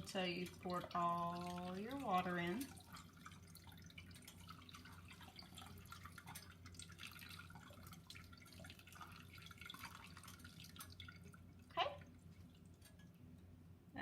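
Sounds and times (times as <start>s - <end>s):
coffee dripping into carafe: 0.0s - 13.5s.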